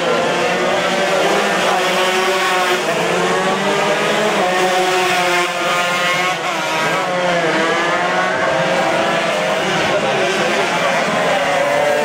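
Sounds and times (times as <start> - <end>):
racing motorcycle engines: 0.0 - 12.0.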